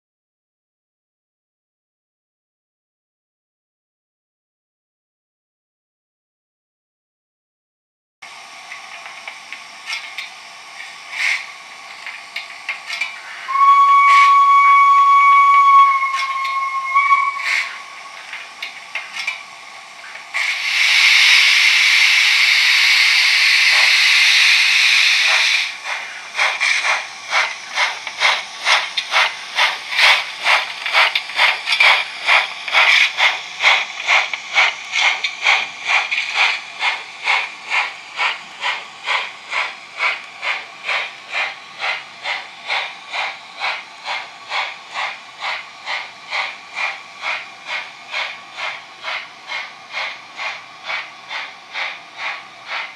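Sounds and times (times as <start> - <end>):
steam hiss: 8.3 - 52.9
steam locomotive exhaust chuffs: 8.3 - 52.9.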